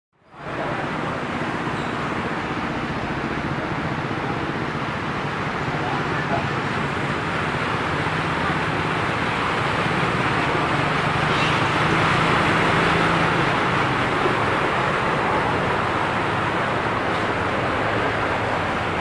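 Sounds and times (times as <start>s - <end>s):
street traffic: 0.2s - 19.0s.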